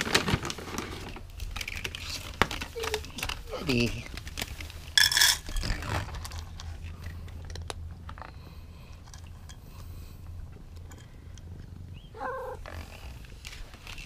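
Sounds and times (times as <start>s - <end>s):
cat crunching dry kibble: 0.0s - 14.0s.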